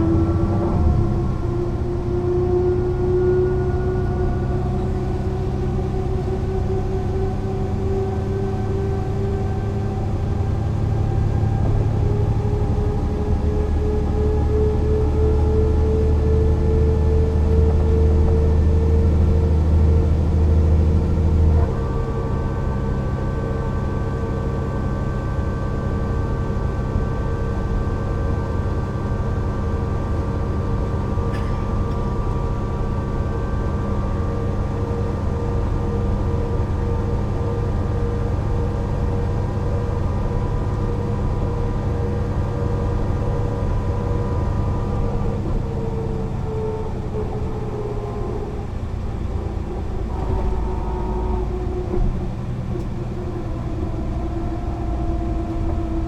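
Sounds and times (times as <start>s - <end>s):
bus engine drone: 0.0s - 56.0s
drivetrain whining tones: 0.0s - 56.0s.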